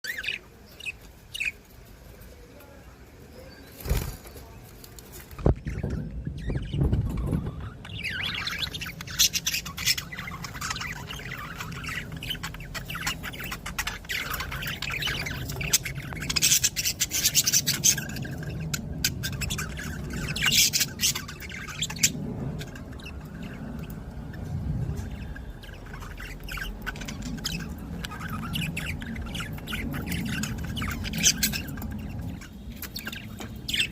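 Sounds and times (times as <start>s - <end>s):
budgerigars chattering and squawking: 0.0s - 1.6s, 5.4s - 33.9s
steady low hum: 5.5s - 33.9s.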